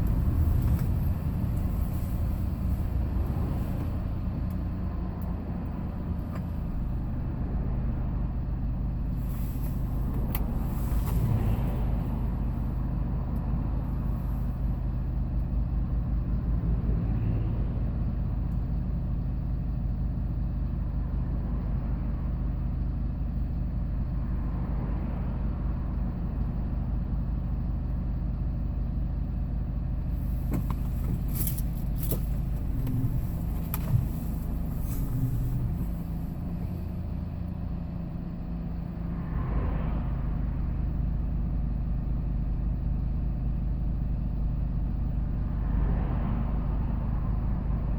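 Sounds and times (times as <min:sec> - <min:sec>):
truck engine and road noise: 0:00.0 - 0:47.9.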